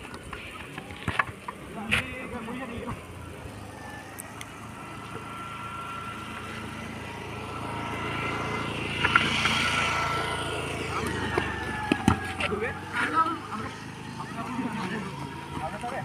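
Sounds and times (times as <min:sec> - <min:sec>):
motor scooter engine: 0:00.0 - 0:16.0.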